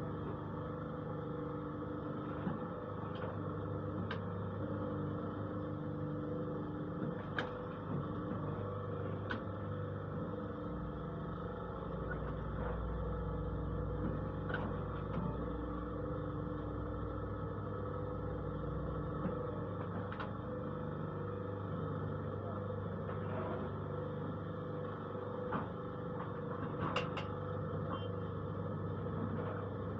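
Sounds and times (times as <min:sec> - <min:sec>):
press machine motor hum: 0:00.0 - 0:29.9.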